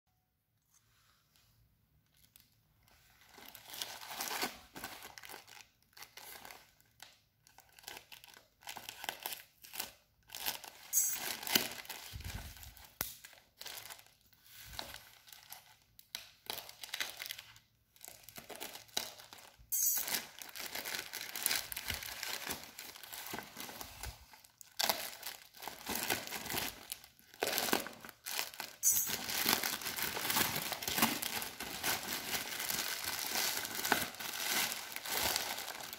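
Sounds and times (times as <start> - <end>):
bubble wrap crinkling: 2.0 - 35.9
plastic mailer bag crinkling and tearing: 3.2 - 35.9.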